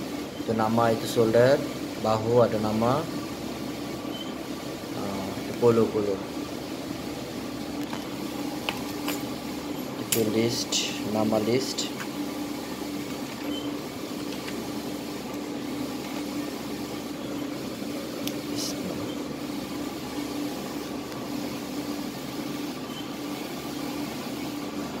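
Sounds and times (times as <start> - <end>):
equipment humming: 0.0 - 25.0.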